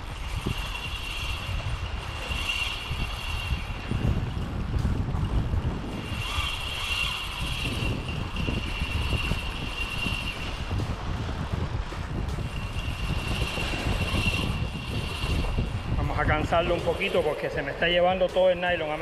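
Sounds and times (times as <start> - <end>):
fishing reel drag buzzing: 0.0 - 19.0
wind noise on microphone: 0.0 - 19.0.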